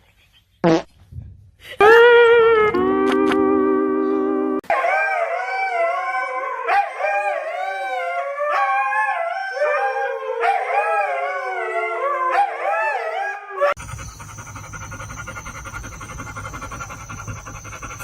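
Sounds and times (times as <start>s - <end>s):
dog howling: 1.8s - 18.0s.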